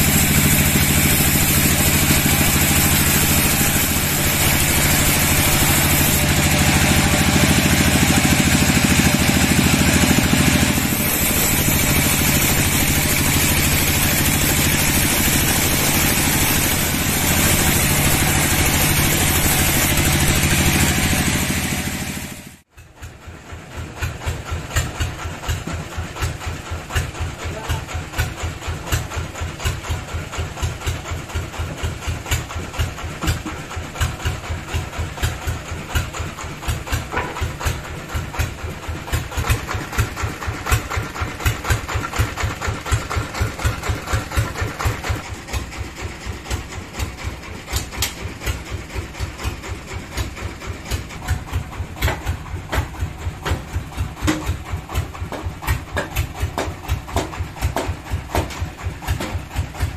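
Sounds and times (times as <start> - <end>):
bandsaw cutting log: 0.0 - 22.6, 29.0 - 59.9
engine idling with pulsing beat: 0.0 - 59.9.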